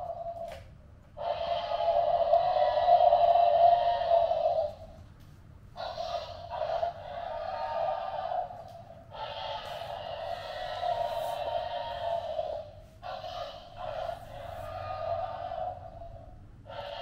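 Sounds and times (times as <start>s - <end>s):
dinosaur roar: 1.2s - 4.8s, 5.8s - 17.0s.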